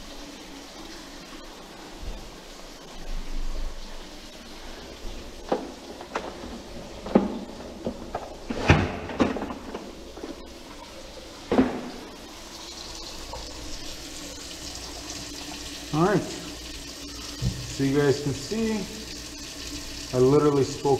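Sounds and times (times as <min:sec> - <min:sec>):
tap water running: 0:00.0 - 0:20.9.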